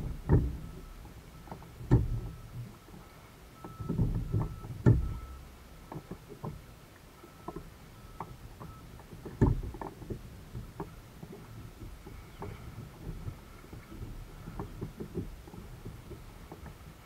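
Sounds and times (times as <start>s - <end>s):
water slapping kayak hull: 0.0s - 17.0s.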